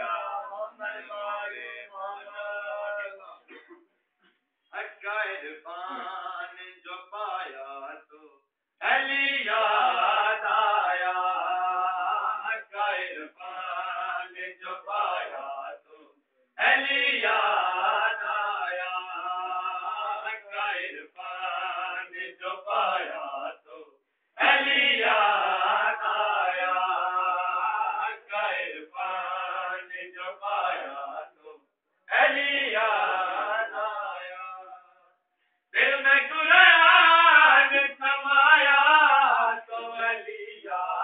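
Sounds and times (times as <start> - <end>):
men chanting: 0.0 - 3.3, 4.8 - 8.0, 8.8 - 16.0, 16.6 - 34.9, 35.8 - 41.0.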